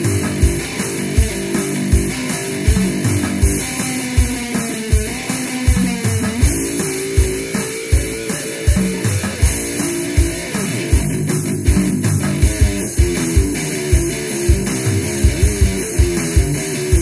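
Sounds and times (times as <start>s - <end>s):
low drum beat thumping: 0.0s - 17.0s
slide guitar notes: 0.0s - 17.0s.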